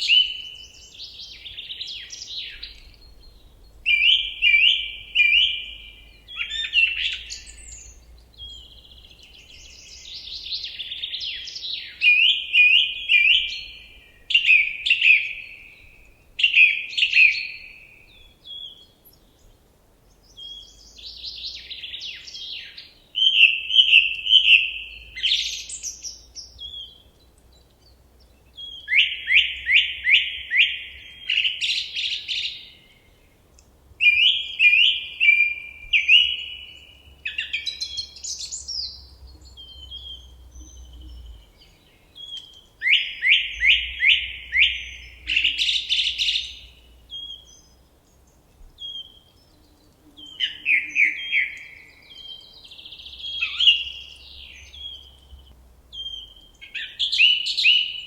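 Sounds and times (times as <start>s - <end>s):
low forest ambience rumble: 0.0s - 16.4s, 17.4s - 50.4s, 51.6s - 58.0s
songbird singing: 0.0s - 58.0s.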